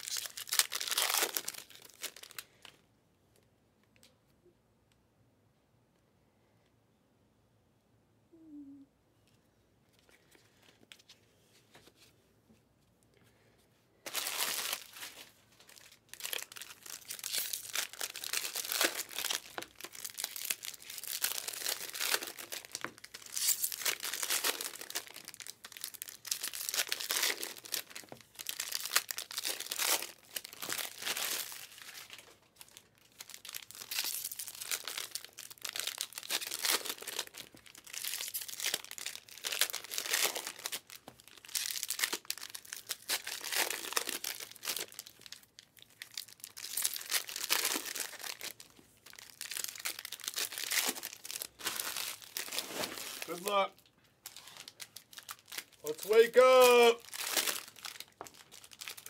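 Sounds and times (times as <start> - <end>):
foil wrappers crinkling and tearing: 0.0 - 2.8, 14.1 - 59.0.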